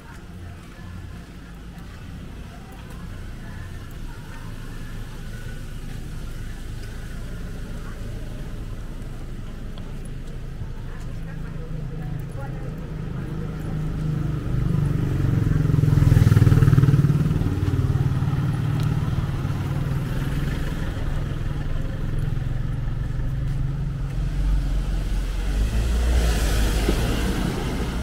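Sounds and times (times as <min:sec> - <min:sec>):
deep engine rumble: 0:00.0 - 0:28.0
motor vehicles passing: 0:00.0 - 0:28.0.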